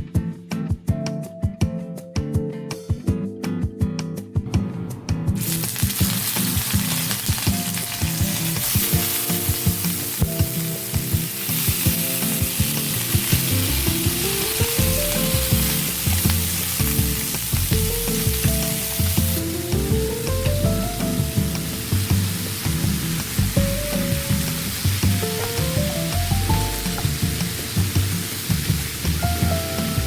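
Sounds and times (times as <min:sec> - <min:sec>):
background music with melody: 0:00.0 - 0:30.0
food sizzling in frying pan: 0:05.4 - 0:30.0.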